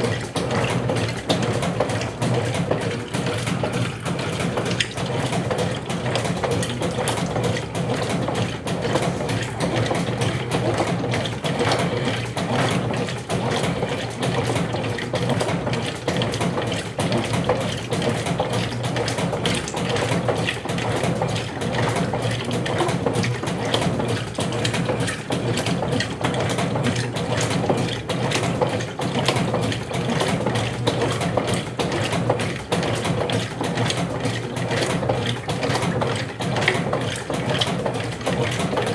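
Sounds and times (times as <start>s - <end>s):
washing machine churning water: 0.0s - 38.9s.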